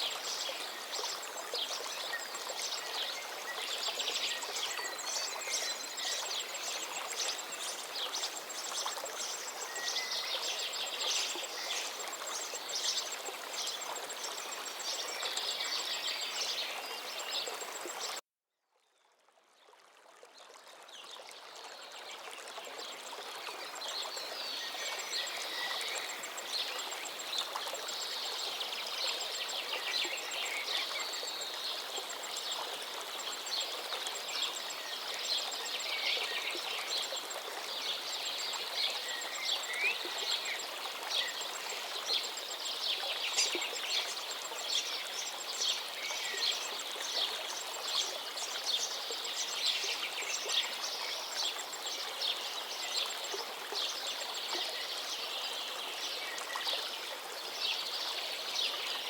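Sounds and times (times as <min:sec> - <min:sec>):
river flowing: 0:00.0 - 0:18.2, 0:19.3 - 0:59.0.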